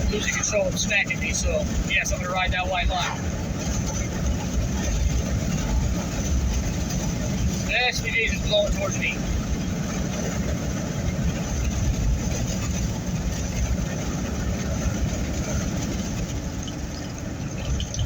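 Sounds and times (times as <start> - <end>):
road and engine rumble in car: 0.0 - 18.0
strong wind outside vehicle: 0.0 - 18.0.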